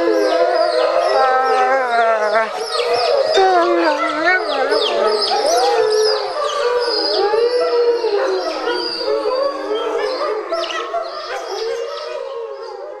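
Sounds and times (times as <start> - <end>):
wolves howling: 0.0 - 13.0
wolves yelping: 0.0 - 13.0.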